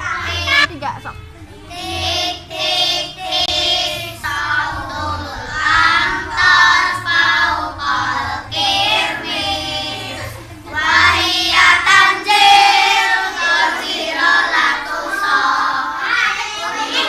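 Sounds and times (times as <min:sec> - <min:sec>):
children singing in unison: 0:00.0 - 0:00.7, 0:01.6 - 0:17.0.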